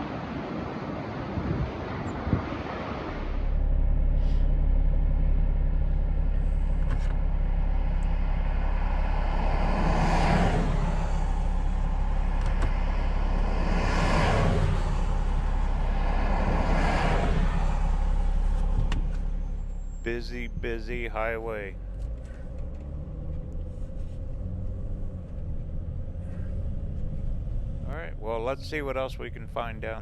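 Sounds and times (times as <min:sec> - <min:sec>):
vehicles whooshing past: 0:00.0 - 0:04.6, 0:06.4 - 0:29.0
vehicle engine and road drone: 0:00.0 - 0:30.0.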